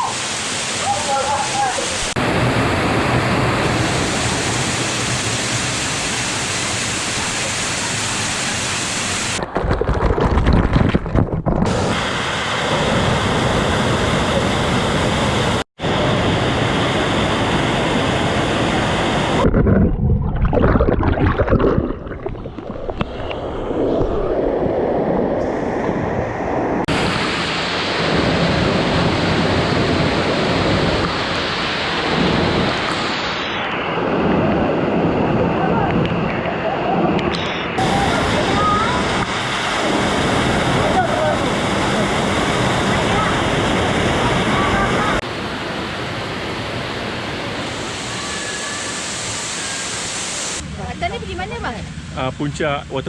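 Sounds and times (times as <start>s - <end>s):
waterfall rushing: 0.0s - 9.4s, 11.7s - 19.5s, 26.8s - 52.3s.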